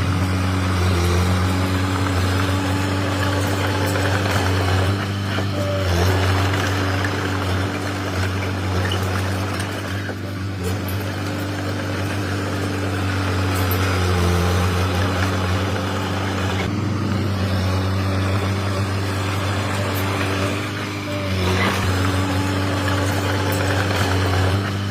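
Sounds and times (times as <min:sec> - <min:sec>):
bulldozer diesel engine running: 0:00.0 - 0:24.9.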